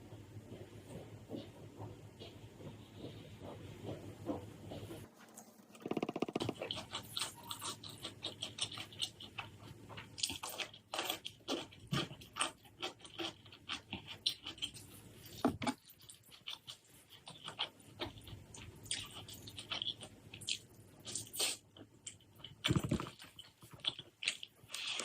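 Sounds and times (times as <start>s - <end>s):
chewing and crunching food: 0.6s - 25.0s.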